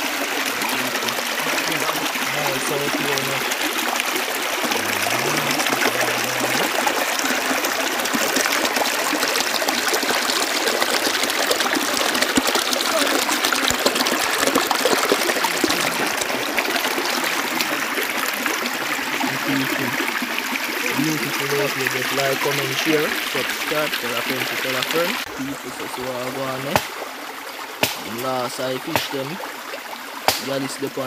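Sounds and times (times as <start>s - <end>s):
river flowing over stones: 0.0s - 31.0s.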